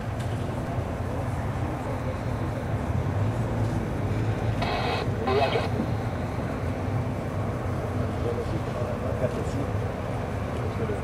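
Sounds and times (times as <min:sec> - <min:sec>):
distant jet engine rumble: 0:00.3 - 0:11.0.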